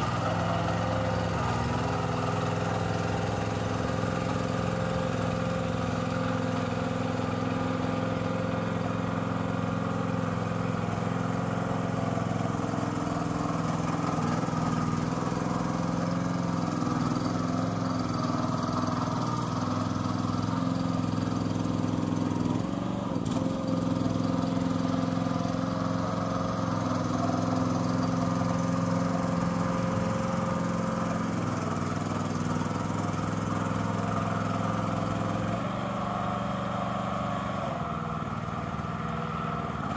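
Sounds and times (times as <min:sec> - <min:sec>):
mini dumper engine running: 0:00.0 - 0:39.9.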